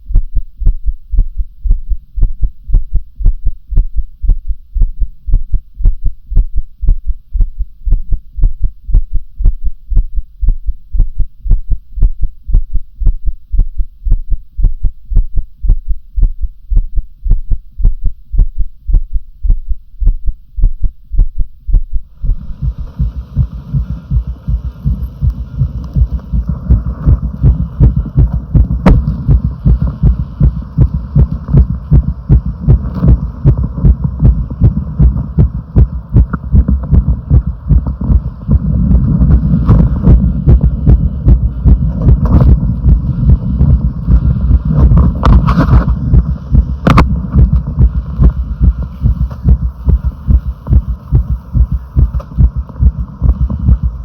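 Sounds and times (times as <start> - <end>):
heartbeat: 0.0 - 54.0
noisy hiss: 0.0 - 54.0.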